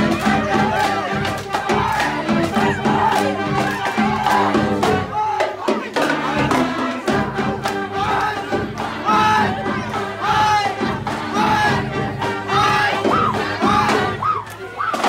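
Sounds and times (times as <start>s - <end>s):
crowd shouting: 0.0s - 15.0s
pep band playing upbeat tune: 0.0s - 15.0s.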